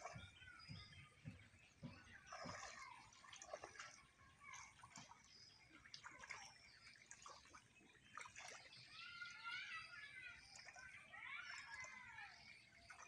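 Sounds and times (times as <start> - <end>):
wading through shallow water: 0.0 - 13.0.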